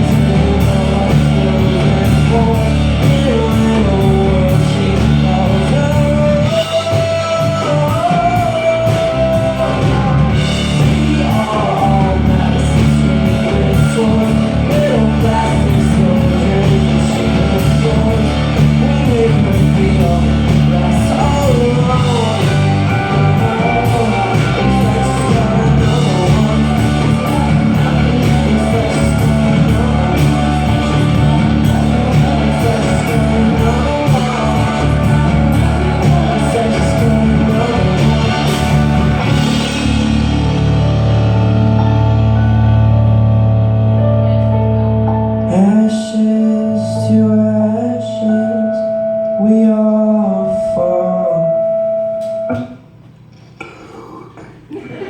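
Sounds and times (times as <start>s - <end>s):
live rock band playing: 0.0s - 53.2s.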